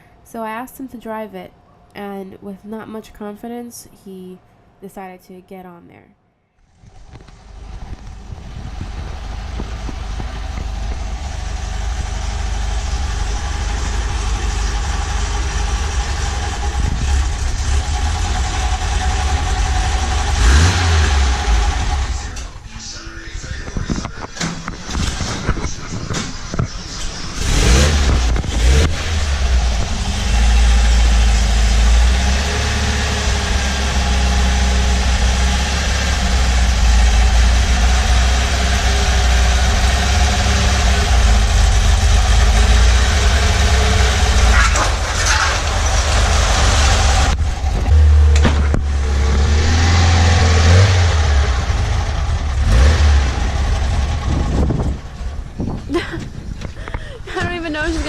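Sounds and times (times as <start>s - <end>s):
engine starting and rumbling: 6.6s - 58.0s.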